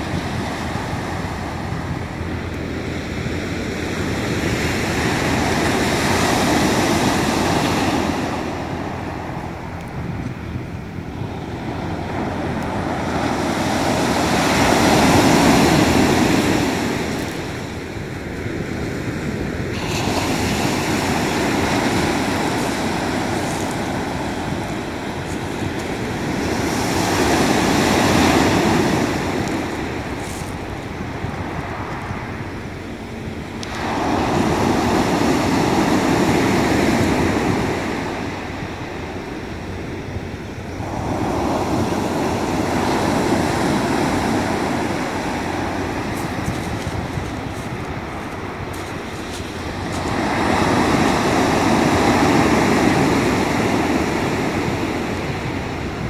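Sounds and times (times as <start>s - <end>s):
waves breaking on pebble beach: 0.0s - 9.4s, 11.1s - 32.6s, 33.3s - 56.0s.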